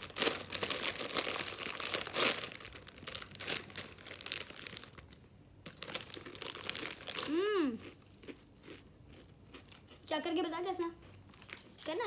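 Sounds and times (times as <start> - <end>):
chip packet crinkling: 0.0 - 10.0, 11.1 - 12.0.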